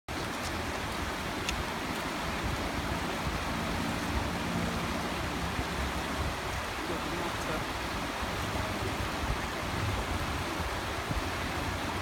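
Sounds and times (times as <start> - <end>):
river water rushing over rocks: 0.1 - 12.0.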